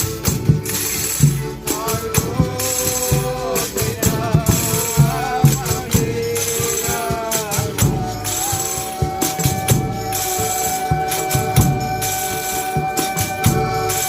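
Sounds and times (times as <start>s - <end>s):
drum strokes: 0.0s - 14.0s
tambourine jingles: 0.0s - 14.0s
person singing: 1.6s - 14.0s.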